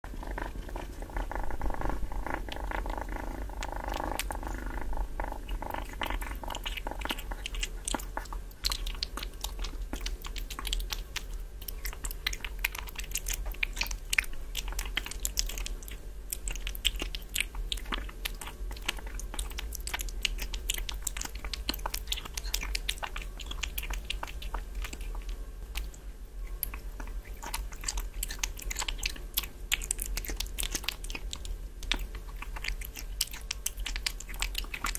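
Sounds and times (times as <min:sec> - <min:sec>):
kitten chewing and licking meat: 0:00.0 - 0:34.9.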